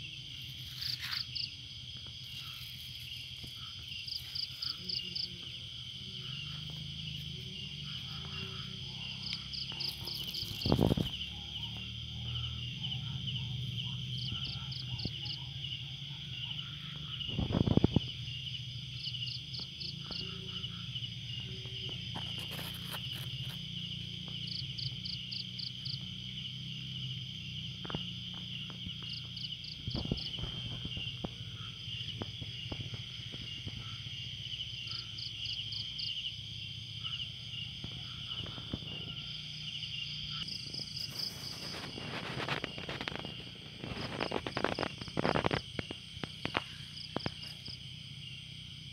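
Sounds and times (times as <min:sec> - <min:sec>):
crickets chirping: 0:00.0 - 0:48.9.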